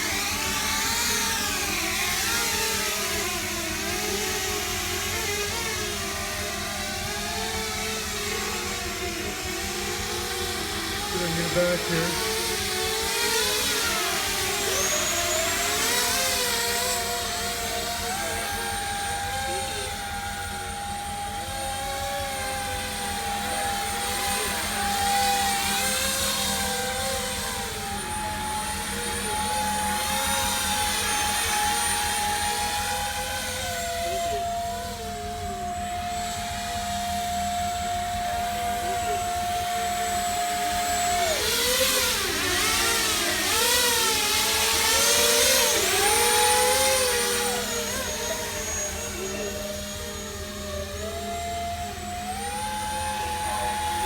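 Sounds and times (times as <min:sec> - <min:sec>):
model aircraft propellers whirring: 0:00.0 - 0:54.0
thin steady whine: 0:00.0 - 0:54.0.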